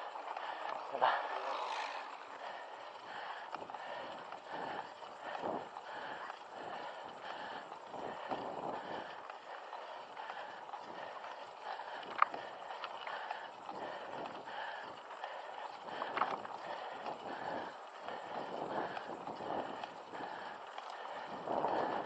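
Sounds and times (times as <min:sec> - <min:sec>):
person breathing hard: 0:00.0 - 0:22.0.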